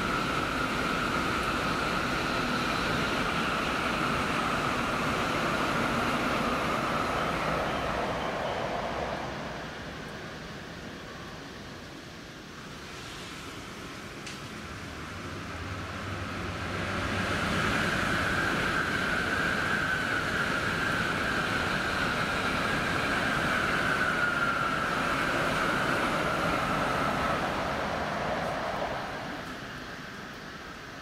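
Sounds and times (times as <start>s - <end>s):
high train whine: 0.0s - 31.0s
trains passing with rail rumble: 0.0s - 31.0s.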